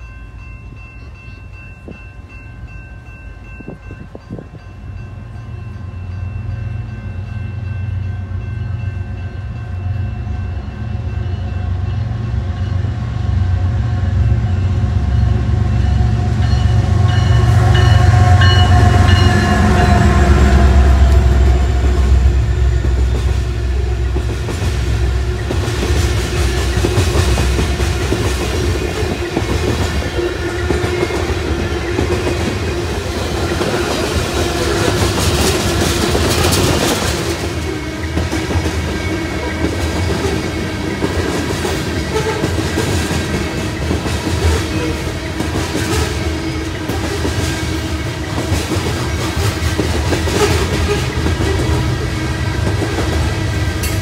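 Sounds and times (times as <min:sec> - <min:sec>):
diesel locomotive engine rumble: 0:00.0 - 0:54.0
steel wheels rumbling on rails: 0:00.0 - 0:54.0.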